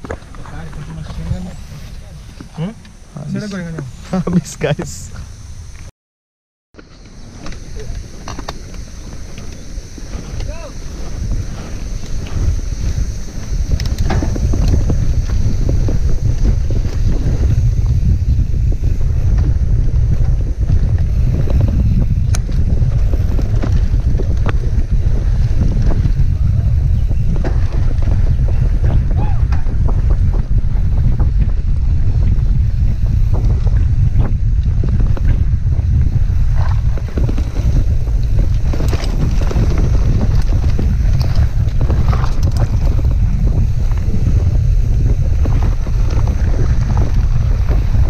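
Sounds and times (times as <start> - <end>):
bike rattling: 0.0 - 5.1, 6.8 - 48.0
wind buffeting microphone: 0.0 - 5.8, 7.0 - 48.0
low rumble of bike tyres: 0.0 - 5.9, 6.8 - 48.0.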